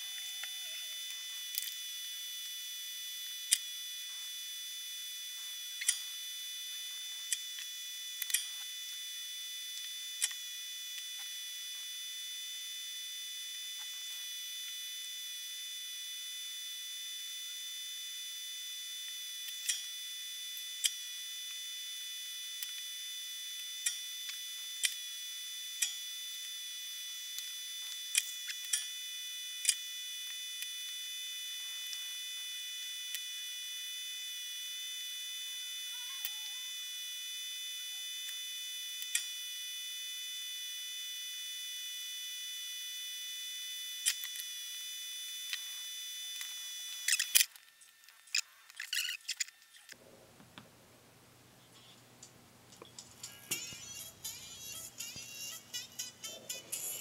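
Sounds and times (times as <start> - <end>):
high-pitched electronic whine: 0.0 - 50.0, 52.8 - 57.0.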